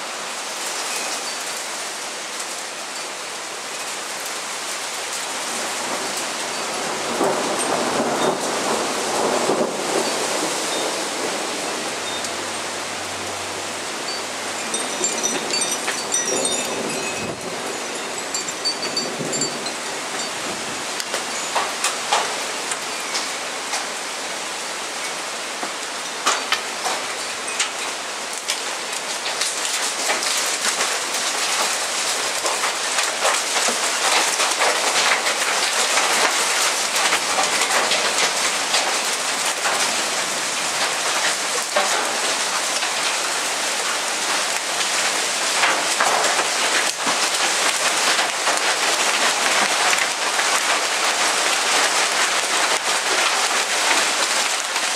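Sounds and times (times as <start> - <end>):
heavy rain hissing: 0.0 - 54.9
hailstones striking roof and ground: 3.6 - 24.3, 25.1 - 54.9.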